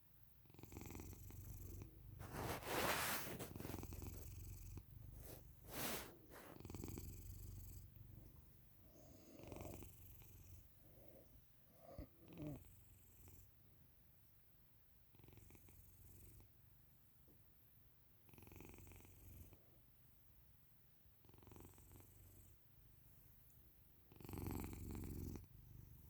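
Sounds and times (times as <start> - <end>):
cat snoring faintly: 0.4 - 13.6, 15.1 - 16.5, 18.2 - 19.8, 21.2 - 26.0.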